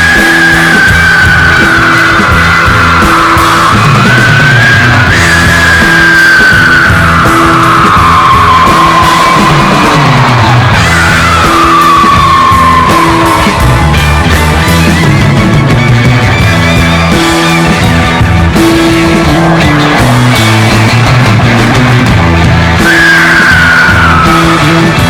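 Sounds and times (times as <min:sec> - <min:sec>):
loud rock music: 0:00.0 - 0:25.0.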